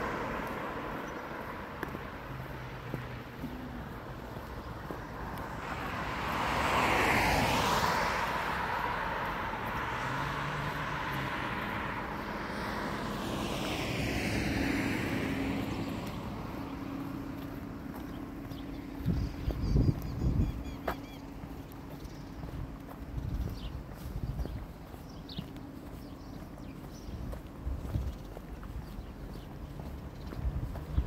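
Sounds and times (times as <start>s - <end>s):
passing motor traffic: 0.0s - 31.0s.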